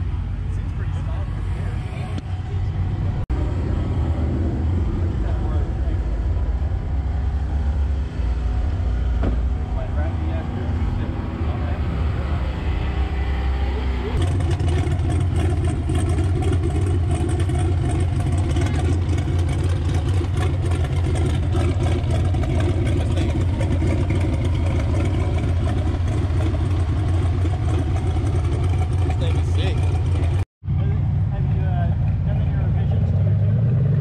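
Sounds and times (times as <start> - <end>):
car engine idling: 0.0 - 33.8.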